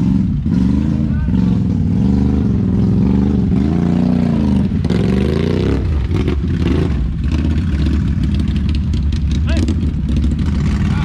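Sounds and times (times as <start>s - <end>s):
atv engine revving: 0.0s - 11.0s
engine clatter: 0.0s - 11.0s.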